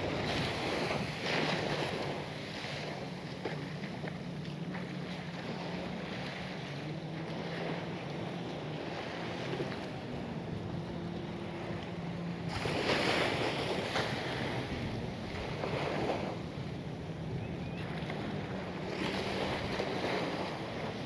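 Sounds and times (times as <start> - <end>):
surf washing onto beach: 0.0 - 21.0
wind on microphone: 0.0 - 21.0.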